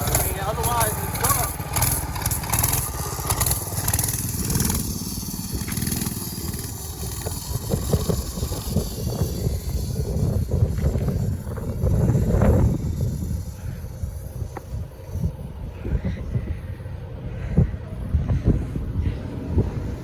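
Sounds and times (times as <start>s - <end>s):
small bike engine running: 0.0s - 20.0s.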